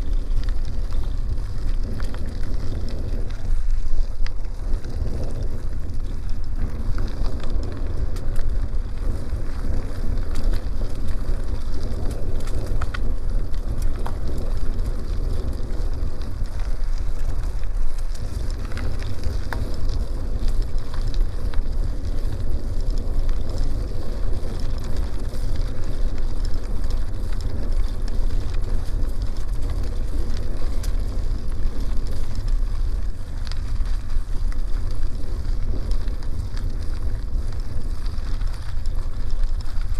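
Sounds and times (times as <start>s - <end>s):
bicycle tyres on dirt road: 0.0s - 39.9s
wind rumbling on microphone: 0.0s - 39.9s.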